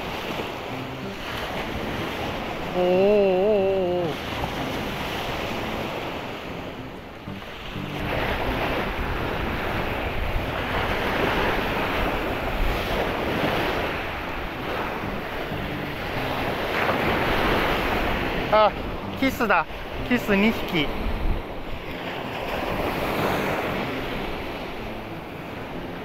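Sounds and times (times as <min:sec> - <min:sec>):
wind buffeting microphone: 0:00.0 - 0:20.1, 0:20.9 - 0:26.0
surf waves washing: 0:00.0 - 0:26.0.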